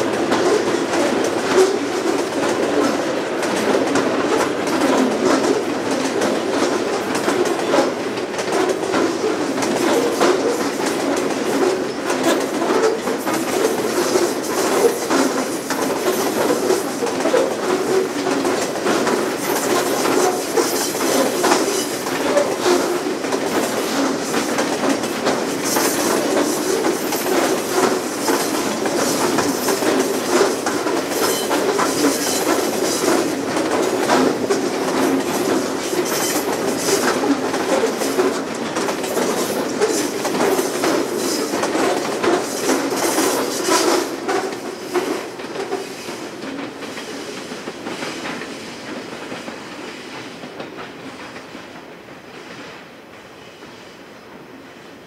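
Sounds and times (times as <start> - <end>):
train wheels clicking over rail joints: 0.0 - 54.5.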